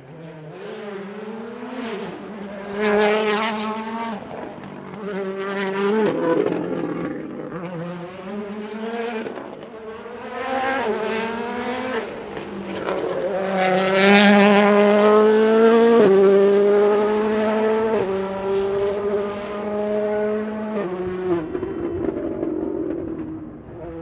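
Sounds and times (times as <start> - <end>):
rally car engine accelerating: 0.0 - 24.0.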